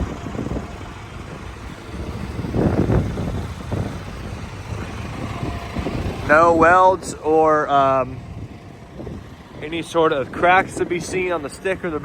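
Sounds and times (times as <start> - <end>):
diesel engine idling: 0.0 - 12.0
wind rumble on microphone: 0.0 - 12.0.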